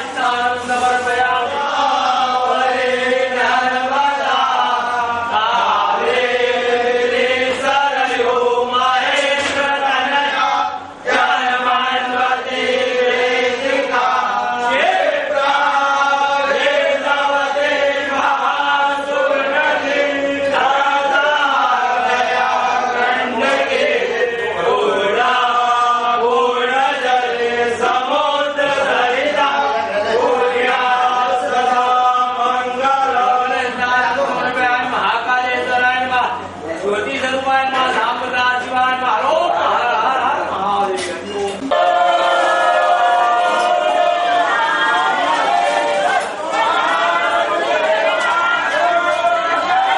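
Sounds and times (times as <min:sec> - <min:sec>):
voices chanting a mantra: 0:00.0 - 0:40.8, 0:41.6 - 0:49.9.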